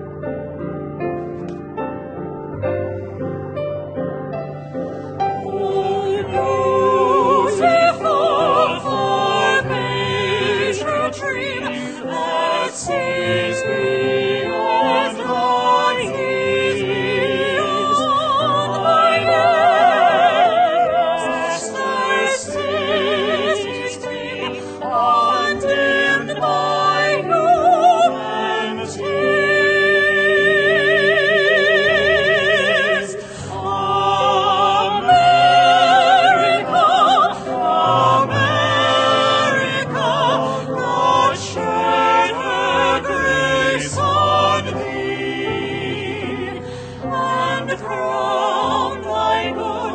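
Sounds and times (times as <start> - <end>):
classical singing with vibrato: 5.2 - 49.9.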